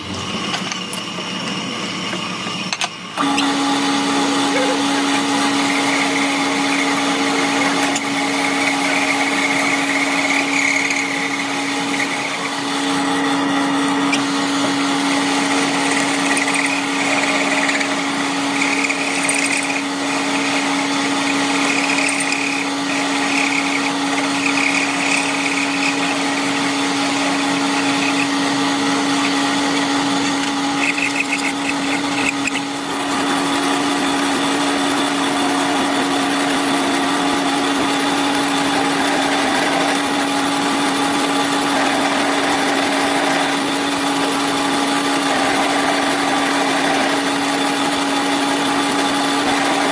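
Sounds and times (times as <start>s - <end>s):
high machine whine: 0.0s - 49.9s
power tool running: 0.0s - 49.9s.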